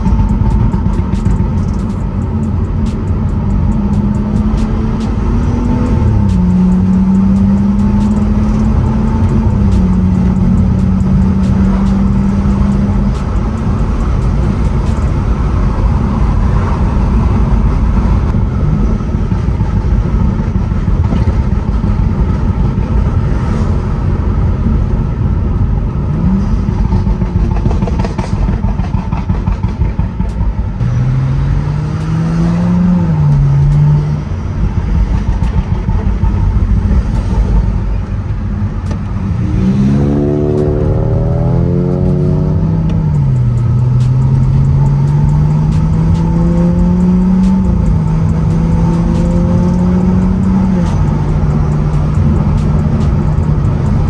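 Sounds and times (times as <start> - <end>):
car engine droning in cabin: 0.0 - 54.0
road rumble: 0.0 - 54.0.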